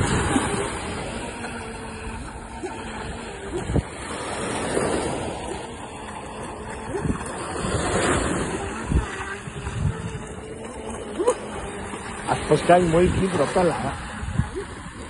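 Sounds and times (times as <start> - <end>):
model boat motor buzzing: 0.0 - 15.0
small waves washing onto shore: 0.0 - 15.0
wind buffeting microphone: 0.0 - 15.0.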